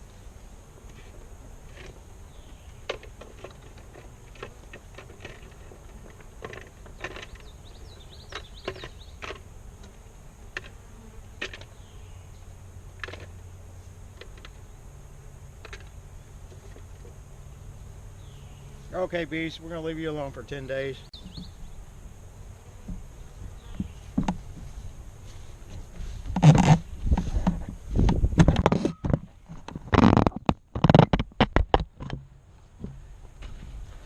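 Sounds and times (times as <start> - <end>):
honeybees buzzing: 0.0 - 28.4.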